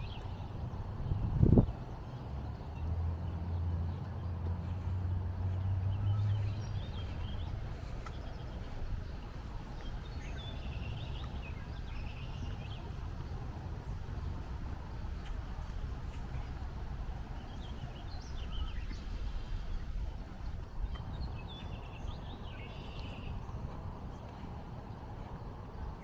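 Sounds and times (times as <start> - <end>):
small birds chirping: 0.0 - 26.0
steady background hum: 0.0 - 26.0.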